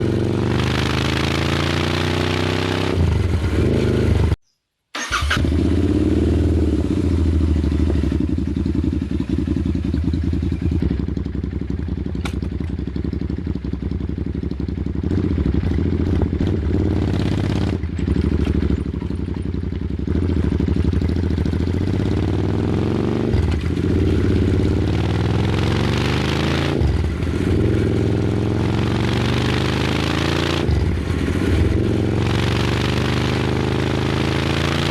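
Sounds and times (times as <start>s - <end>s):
motorcycle engine idling and revving: 0.0s - 4.4s, 5.0s - 34.9s.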